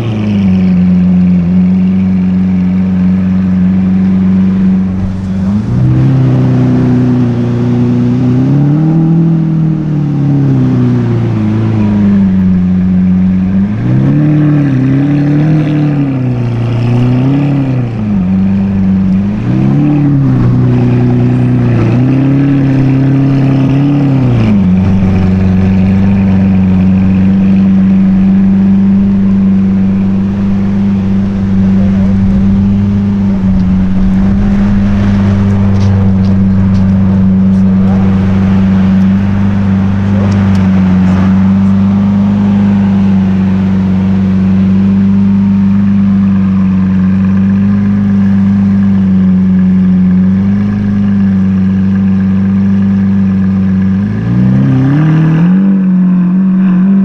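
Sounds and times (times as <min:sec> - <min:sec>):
sports car engine revving: 0:00.0 - 0:57.0.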